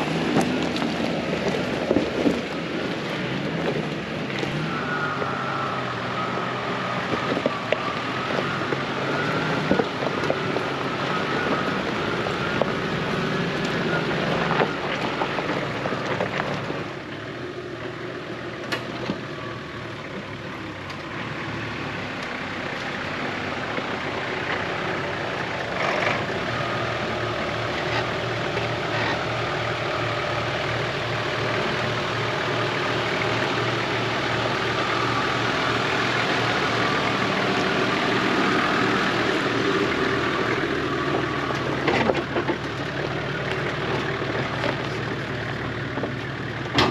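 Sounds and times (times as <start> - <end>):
off-road vehicle engine running: 0.0 - 46.9.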